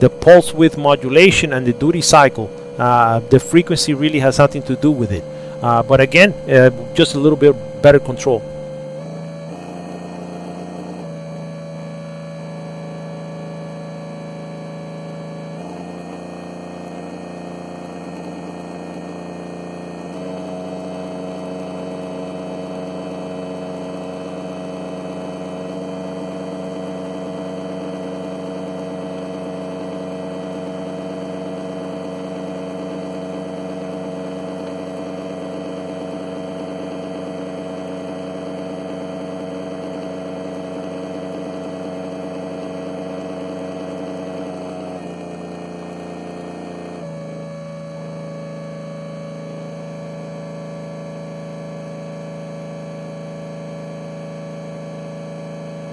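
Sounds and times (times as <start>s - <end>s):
cooling fan motor whine: 0.0s - 55.9s.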